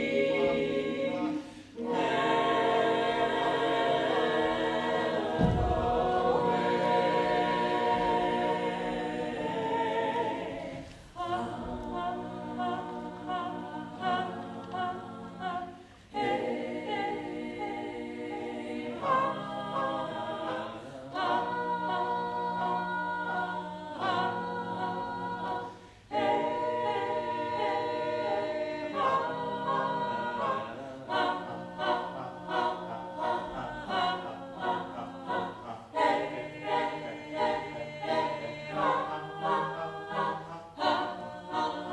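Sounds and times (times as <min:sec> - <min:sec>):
choir singing a cappella: 0:00.0 - 0:41.9.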